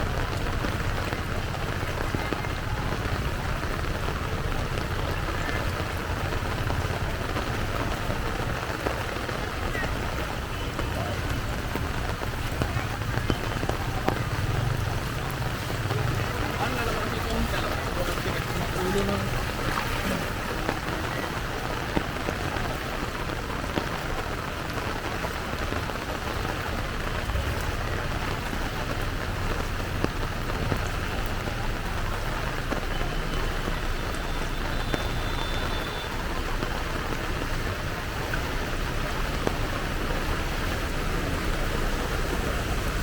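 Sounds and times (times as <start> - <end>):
heavy rain downpour: 0.0 - 43.0.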